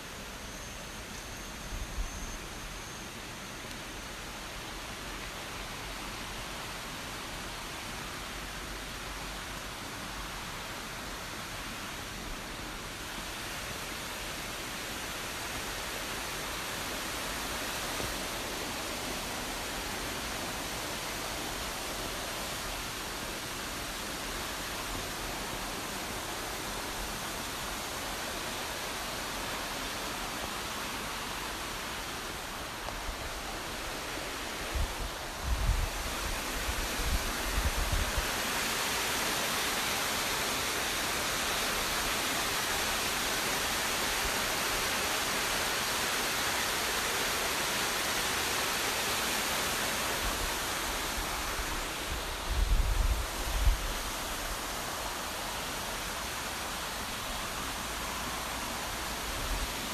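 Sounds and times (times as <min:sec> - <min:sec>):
waterfall rushing: 0:04.8 - 0:59.9.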